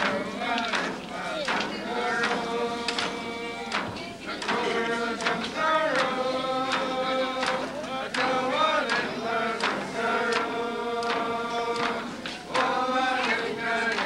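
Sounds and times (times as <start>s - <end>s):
frame drum beat: 0.0s - 14.0s
group singing in unison: 0.0s - 14.0s.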